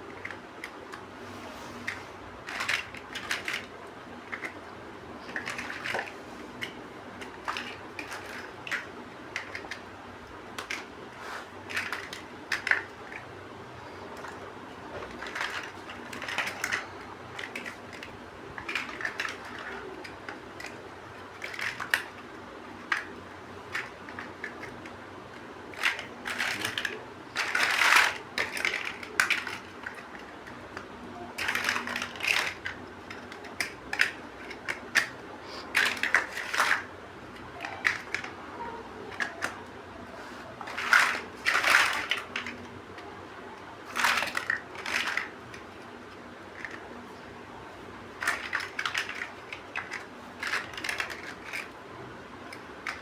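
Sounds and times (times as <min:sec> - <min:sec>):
plastic bricks clicking and clattering: 0:01.8 - 0:11.0, 0:11.6 - 0:47.3, 0:47.9 - 0:53.0.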